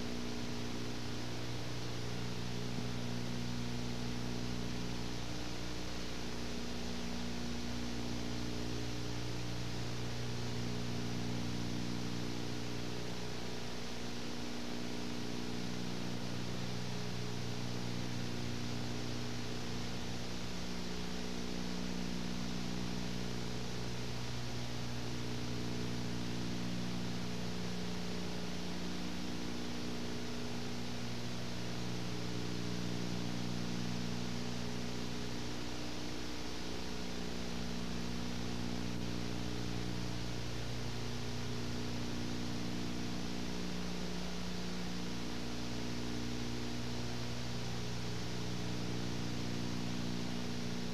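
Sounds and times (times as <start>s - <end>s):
constant hiss: 0.0s - 50.9s
low electrical hum: 0.0s - 50.9s.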